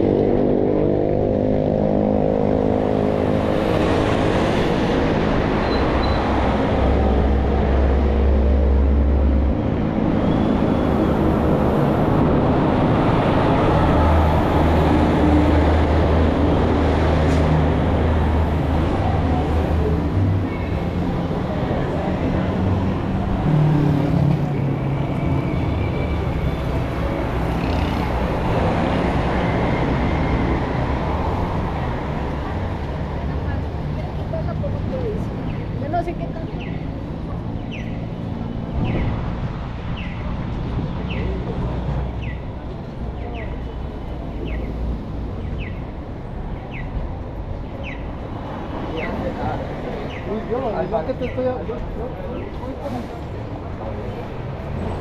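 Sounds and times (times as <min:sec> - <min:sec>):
car and bus engines passing: 0:00.0 - 0:55.0
city street traffic rumble: 0:00.0 - 0:55.0.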